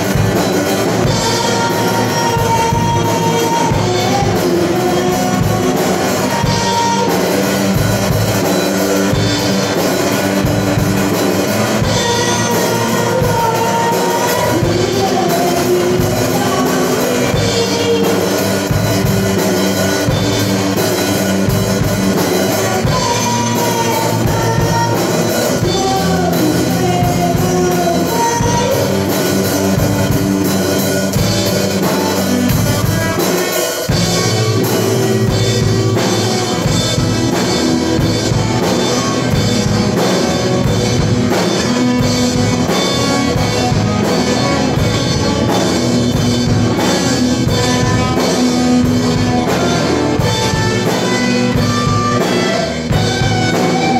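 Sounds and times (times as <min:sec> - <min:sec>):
rock band playing: 0:00.0 - 0:53.9
steady drum beat: 0:00.0 - 0:53.9.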